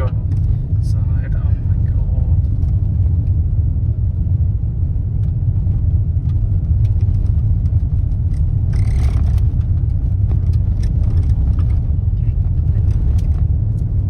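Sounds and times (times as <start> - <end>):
car tyres rumbling on gravel: 0.0 - 14.0.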